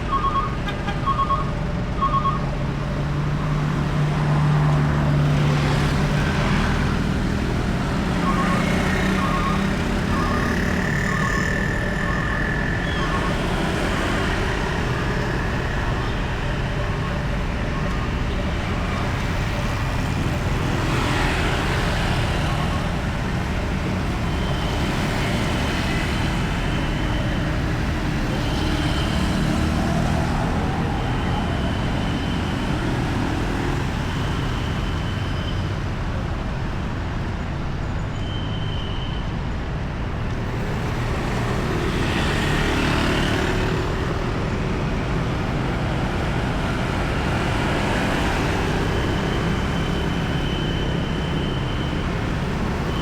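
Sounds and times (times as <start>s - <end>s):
motorcycles and cars passing: 2.6s - 35.2s, 40.3s - 53.0s.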